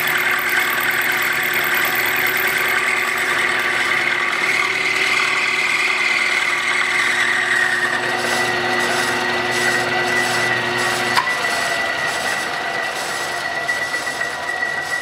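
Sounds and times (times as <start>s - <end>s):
milling machine cutting metal: 0.0s - 15.0s.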